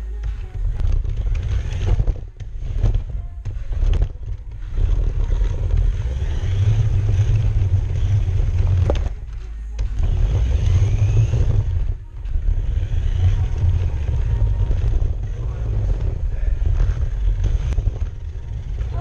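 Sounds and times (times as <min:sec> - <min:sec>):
toy car motor rumble: 0:00.0 - 0:19.0.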